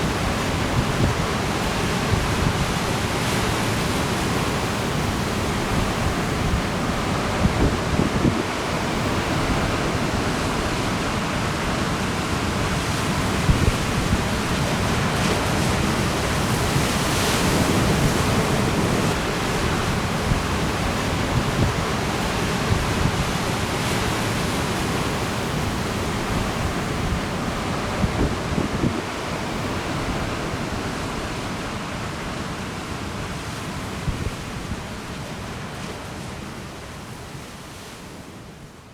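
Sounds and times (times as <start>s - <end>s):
wind gusts buffeting microphone: 0.0s - 31.6s
strong wind: 0.0s - 35.0s
ocean surf: 0.0s - 38.9s.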